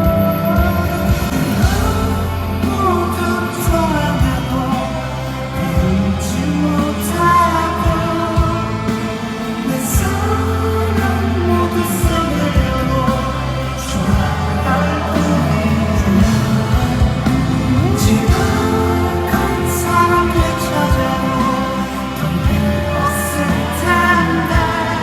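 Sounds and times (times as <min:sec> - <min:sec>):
person singing: 0:00.0 - 0:25.0
rock band playing live: 0:00.0 - 0:25.0.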